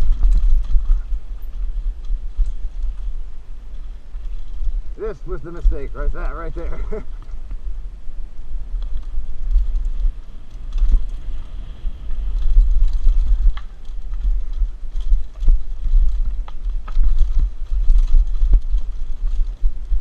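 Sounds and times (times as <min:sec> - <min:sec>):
bike clicks and rattles: 0:00.0 - 0:20.0
wind buffeting microphone: 0:00.0 - 0:20.0.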